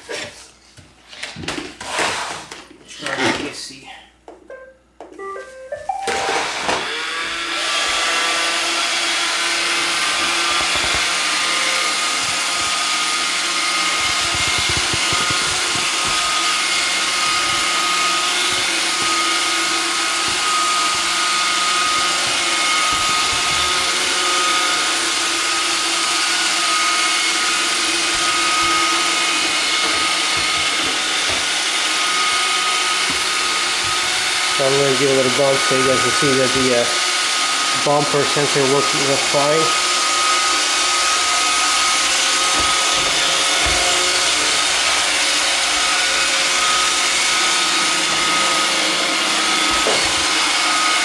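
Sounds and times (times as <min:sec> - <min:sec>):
robot vacuum motor whirring: 0:06.3 - 0:51.0.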